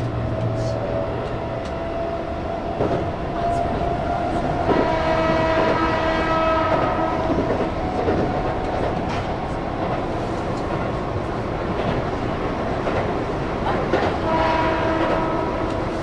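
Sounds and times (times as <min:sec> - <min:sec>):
electric train rumbling at speed: 0:00.0 - 0:16.0.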